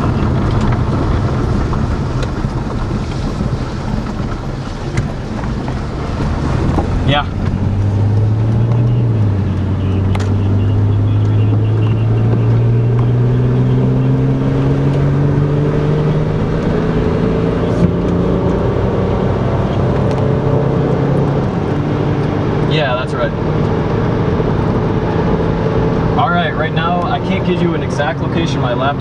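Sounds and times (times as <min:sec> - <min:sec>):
car engine: 0:00.0 - 0:29.0
road noise inside car: 0:00.0 - 0:29.0.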